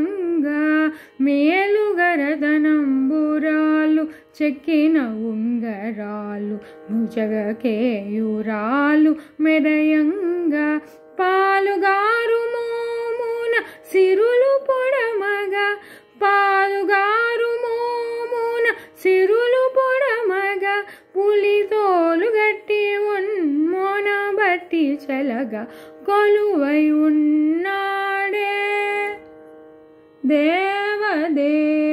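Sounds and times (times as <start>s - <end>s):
woman singing: 0.0s - 29.4s, 30.1s - 31.9s.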